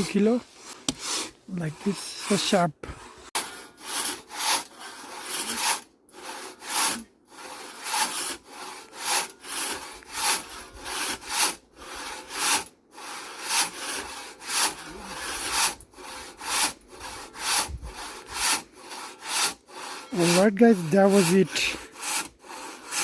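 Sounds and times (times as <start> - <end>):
hand saw cutting wood: 0.0 - 23.0.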